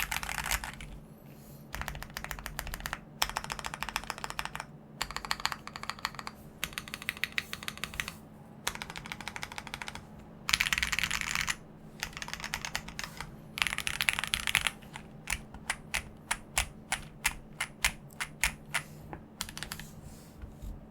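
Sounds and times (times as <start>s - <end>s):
mechanical keyboard typing: 0.0s - 1.0s, 1.7s - 19.9s.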